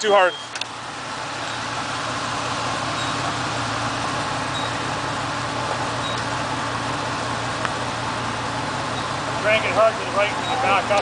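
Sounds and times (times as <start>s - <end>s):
pickup engine idling: 0.0s - 11.0s.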